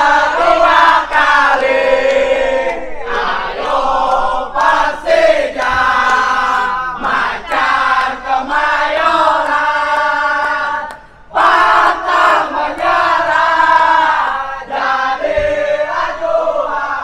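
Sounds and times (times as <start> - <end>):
crowd singing a chant: 0.0 - 17.0.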